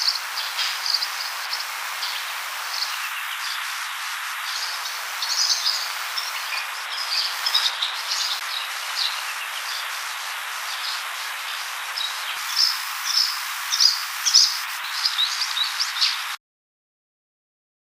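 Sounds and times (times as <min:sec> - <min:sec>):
steady hiss: 0:00.0 - 0:16.4.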